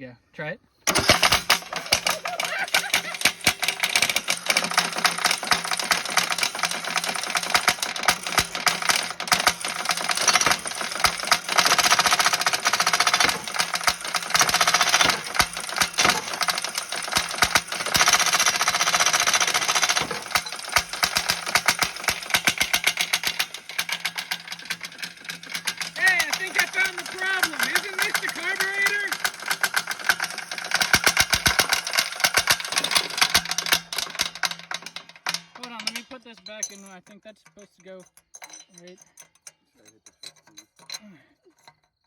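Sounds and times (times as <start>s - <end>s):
lawn mower engine knocking: 0.9s - 38.2s.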